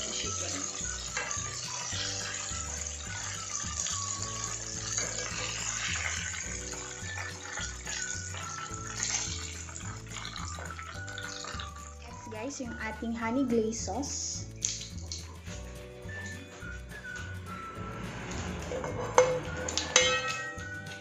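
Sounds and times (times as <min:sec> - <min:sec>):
chicken sizzling in oil: 0:00.0 - 0:16.3, 0:18.0 - 0:21.0
background music: 0:00.0 - 0:21.0.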